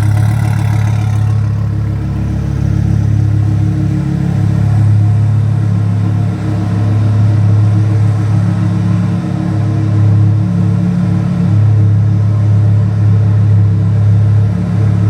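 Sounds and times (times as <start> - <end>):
sports car engine droning: 0.0 - 15.0.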